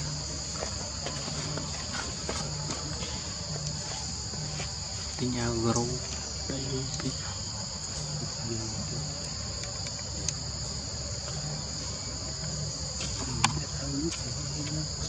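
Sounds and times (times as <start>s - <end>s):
insects droning high-pitched: 0.0s - 15.0s.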